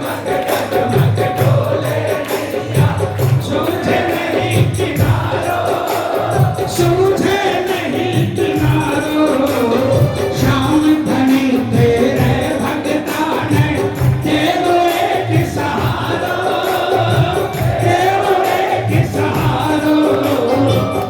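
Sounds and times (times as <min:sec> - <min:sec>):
steady drum beat: 0:00.0 - 0:21.0
person singing a melody: 0:02.8 - 0:21.0.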